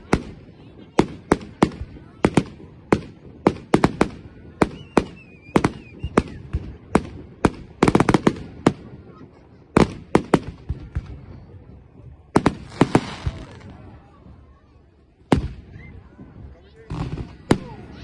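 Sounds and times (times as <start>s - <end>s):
fireworks bangs: 0.0s - 14.6s, 15.2s - 18.0s.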